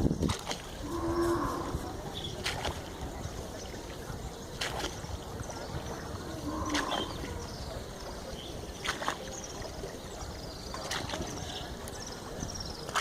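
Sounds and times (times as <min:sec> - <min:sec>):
oars knocking and splashing: 0:00.0 - 0:13.0
water noise: 0:00.0 - 0:13.0
wind: 0:00.0 - 0:13.0.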